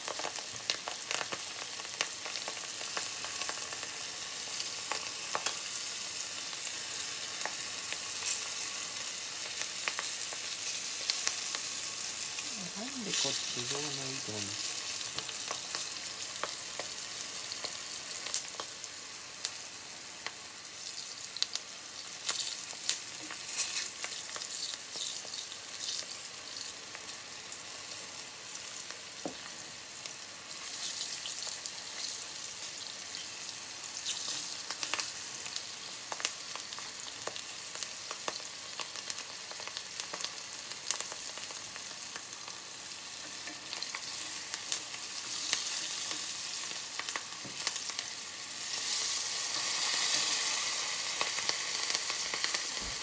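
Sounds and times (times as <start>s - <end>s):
food frying in a pan: 0.0s - 53.0s.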